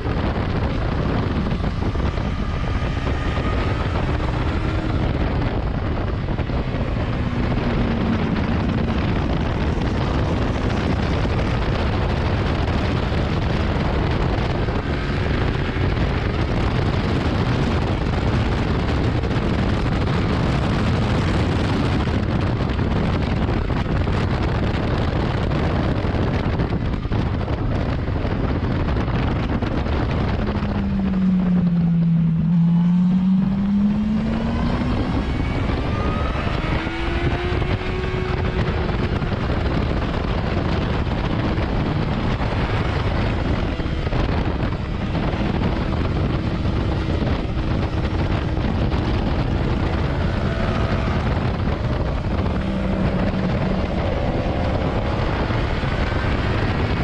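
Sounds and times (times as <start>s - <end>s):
motorcycle engine running hard: 0.0s - 57.0s
wind rush over microphone: 0.0s - 57.0s.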